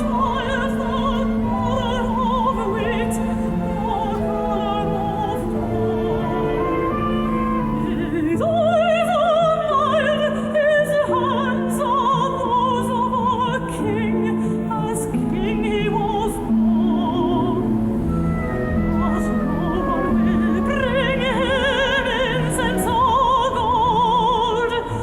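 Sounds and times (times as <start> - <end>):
opera singer with vibrato: 0.0 - 25.0
orchestral accompaniment: 0.0 - 25.0.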